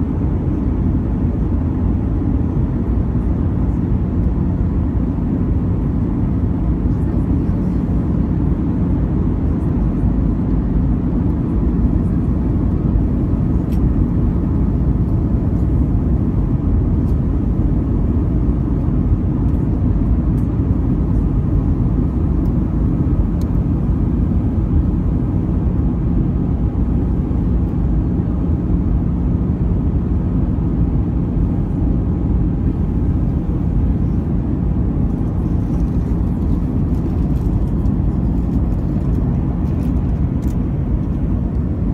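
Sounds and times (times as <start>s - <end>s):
aircraft cabin engine and airflow rush: 0.0s - 41.9s.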